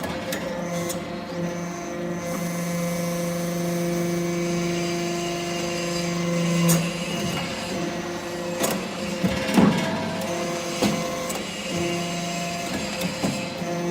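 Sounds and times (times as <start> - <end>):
hydraulic press motor hum: 0.0 - 13.9.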